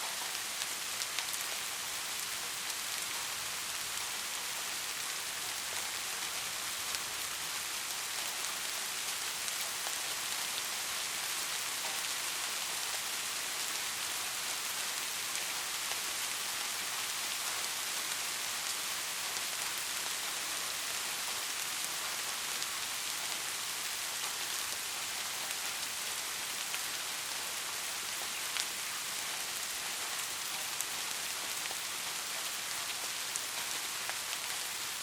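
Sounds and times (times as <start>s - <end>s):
soft rain falling: 0.0s - 35.0s.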